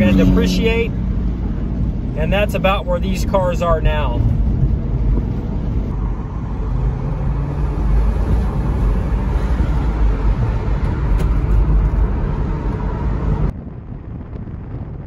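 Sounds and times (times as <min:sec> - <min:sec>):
car engine accelerating: 0:00.0 - 0:13.5
road noise: 0:00.0 - 0:15.0
wind noise: 0:00.0 - 0:15.0.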